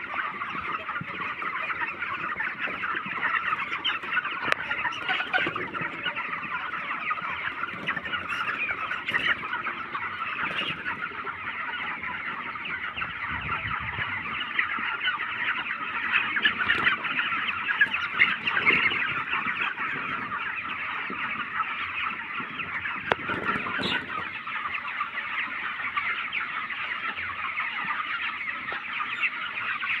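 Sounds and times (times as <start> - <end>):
chickens chirping and clucking: 0.0 - 30.0.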